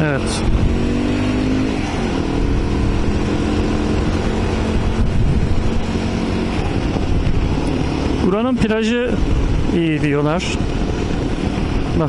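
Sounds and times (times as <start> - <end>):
motorcycle engine running: 0.0 - 12.0
road noise: 0.0 - 12.0
wind noise: 0.0 - 12.0.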